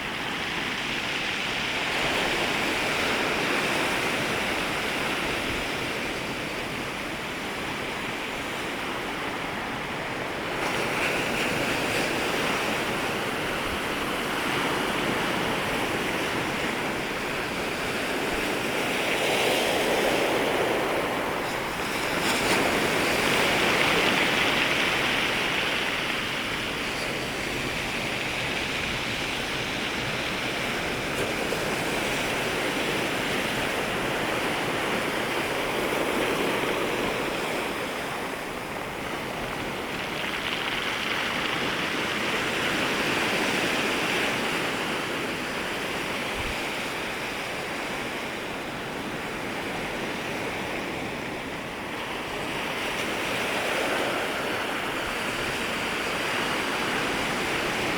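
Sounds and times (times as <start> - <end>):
sea waves breaking on shore: 0.0 - 57.9.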